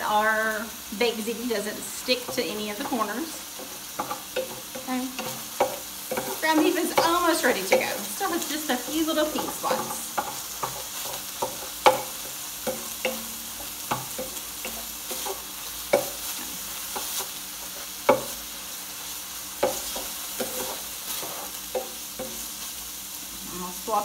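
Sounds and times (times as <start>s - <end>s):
ground beef sizzling in skillet: 0.0s - 24.0s
utensil scraping pan: 1.6s - 18.4s, 19.6s - 22.5s.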